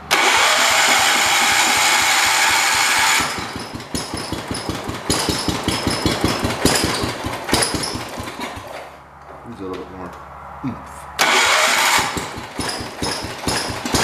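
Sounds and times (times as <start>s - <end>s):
garden tractor engine running: 0.0s - 8.8s, 11.2s - 14.0s.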